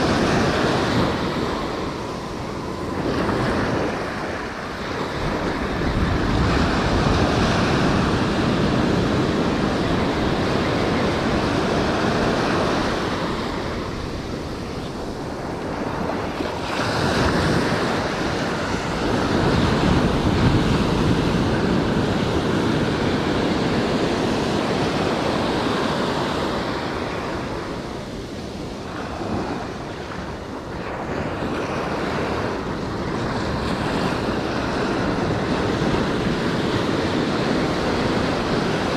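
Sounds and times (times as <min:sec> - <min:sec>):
surf breaking on beach: 0:00.0 - 0:38.9
wind on microphone: 0:00.0 - 0:38.9.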